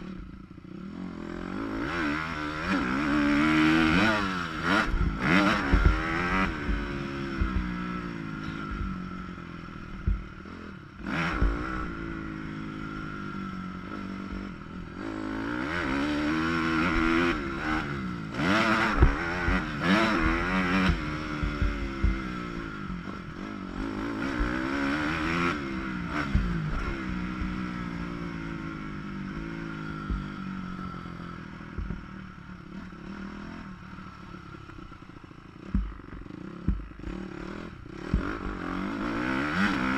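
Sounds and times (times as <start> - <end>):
muffled dirt bike engine revving: 0.0 - 39.9.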